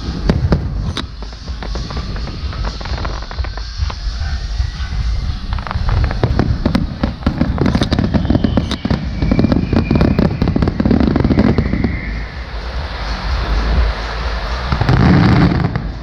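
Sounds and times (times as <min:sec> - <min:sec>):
fireworks bangs and crackles: 0:00.0 - 0:16.0
low rumble: 0:00.0 - 0:16.0
thin whistle: 0:02.0 - 0:15.6.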